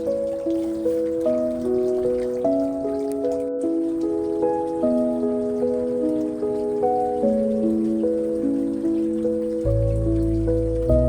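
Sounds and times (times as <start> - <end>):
calm background music: 0.0 - 11.0.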